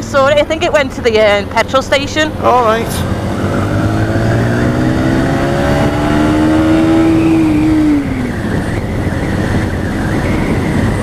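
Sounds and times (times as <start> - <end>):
motorcycle engine accelerating: 0.0 - 11.0
wind and road noise: 0.0 - 11.0.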